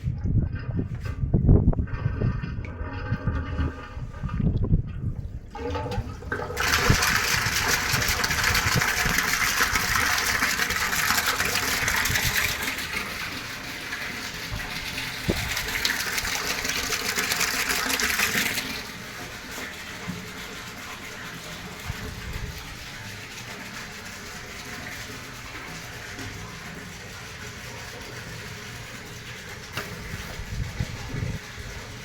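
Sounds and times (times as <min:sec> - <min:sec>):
water gushing: 0:00.0 - 0:32.0.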